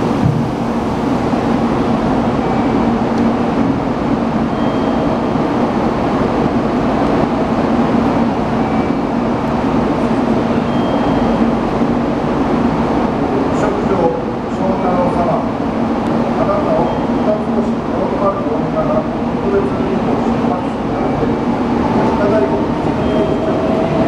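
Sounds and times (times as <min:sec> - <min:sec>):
train idling hum: 0:00.0 - 0:24.0.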